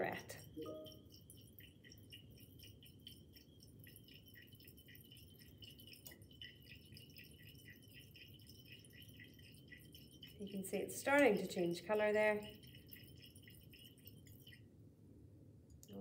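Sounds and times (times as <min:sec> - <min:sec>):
liquid dripping into glass flask: 0:00.1 - 0:11.7, 0:12.4 - 0:14.6.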